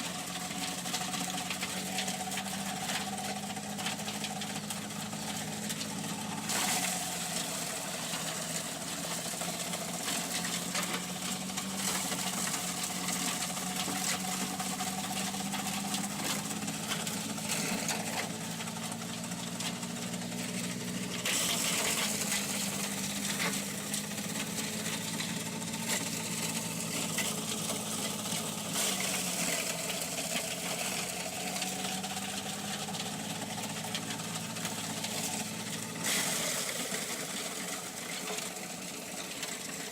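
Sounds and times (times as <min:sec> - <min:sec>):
motor running: 0:00.0 - 0:39.9.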